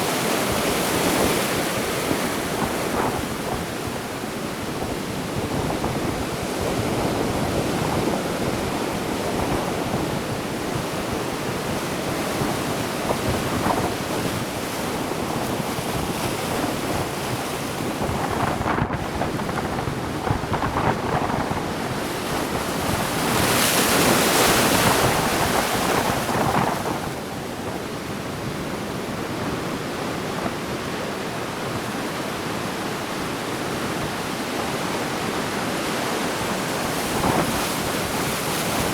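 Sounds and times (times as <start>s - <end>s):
sea waves washing ashore: 0.0s - 38.9s
wind on microphone: 0.0s - 38.9s.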